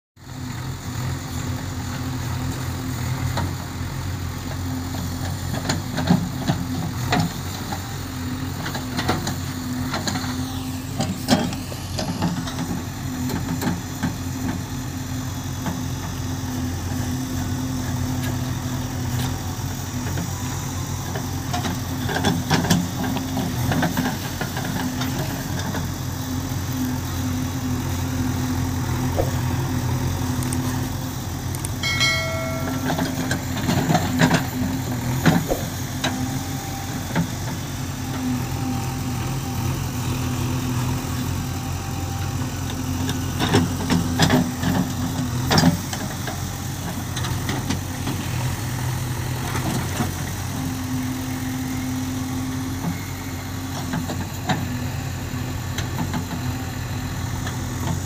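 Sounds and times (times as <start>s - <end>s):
diesel engine running: 0.2s - 58.0s.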